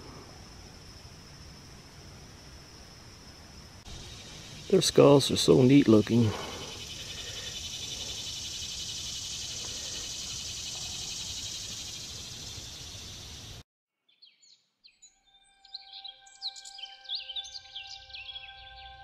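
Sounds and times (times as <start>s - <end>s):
insect chorus buzzing: 0.0s - 13.6s, 15.3s - 19.0s.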